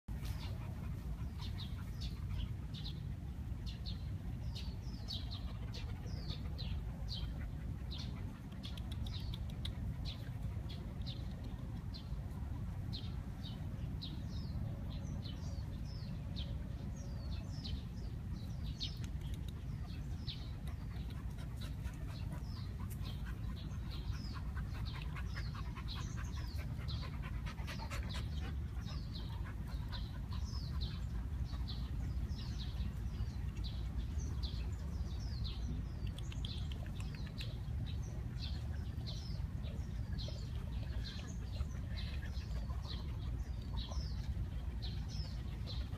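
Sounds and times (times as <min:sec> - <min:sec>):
dogs panting: 0:00.1 - 0:16.0, 0:18.4 - 0:45.9
small birds chirping: 0:00.1 - 0:45.9.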